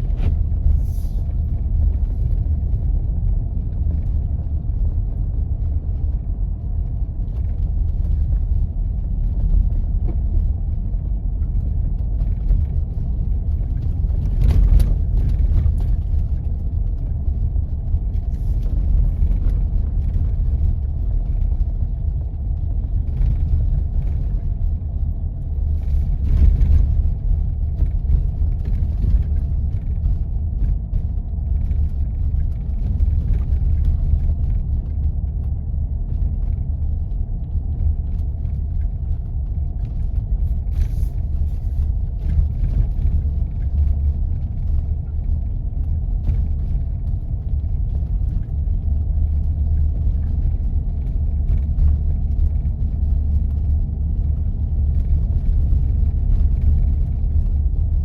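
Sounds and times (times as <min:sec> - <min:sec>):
car driving on snow: 0:00.0 - 0:58.0.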